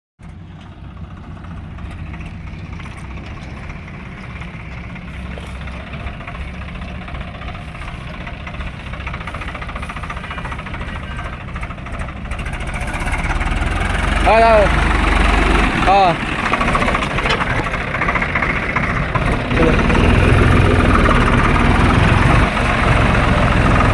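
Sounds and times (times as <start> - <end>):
tractor diesel engine running: 0.2 - 23.9.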